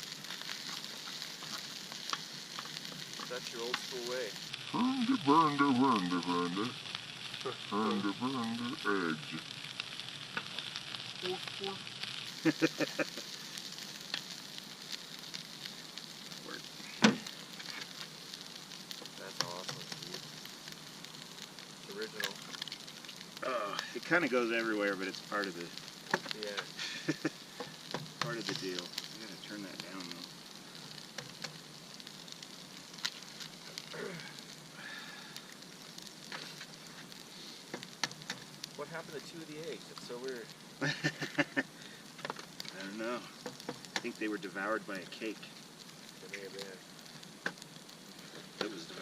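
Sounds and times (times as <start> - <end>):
food sizzling in a pan: 0.0 - 49.0
sharp spattering pops: 0.0 - 49.0.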